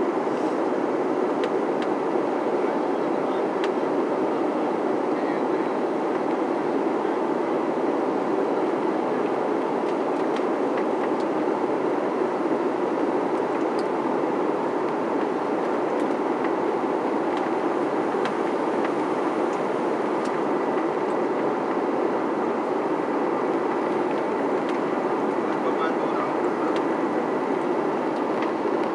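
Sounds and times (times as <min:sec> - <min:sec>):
jet cabin airflow and engines: 0:00.0 - 0:28.9.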